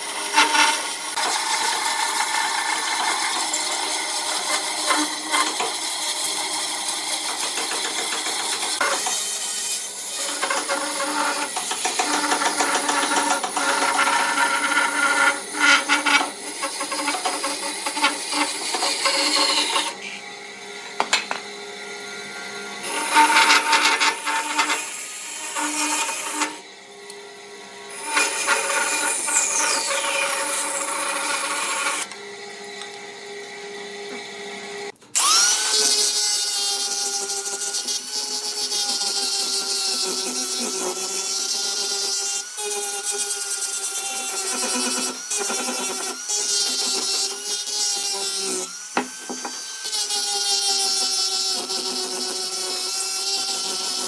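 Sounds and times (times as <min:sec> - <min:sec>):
power tools working wood: 0:00.0 - 0:54.0
tool motor whining: 0:00.0 - 0:54.0.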